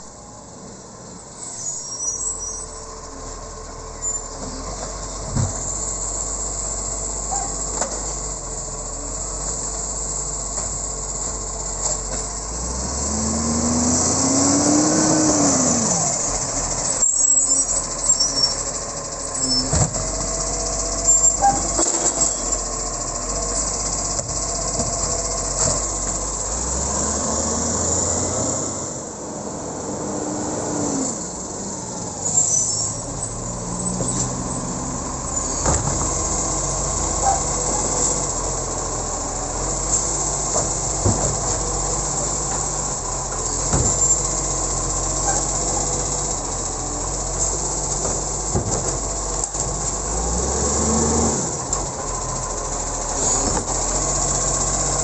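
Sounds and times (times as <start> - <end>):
brake squeals: 0.0 - 29.1, 30.0 - 55.0
garbage truck driving past: 2.9 - 55.0.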